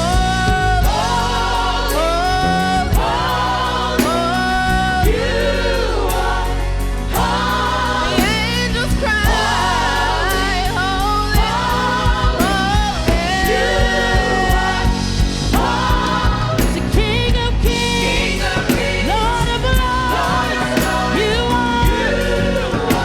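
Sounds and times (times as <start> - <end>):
bass line: 0.0 - 23.0
gospel choir singing: 0.0 - 23.0
steady drum beat: 0.0 - 23.0.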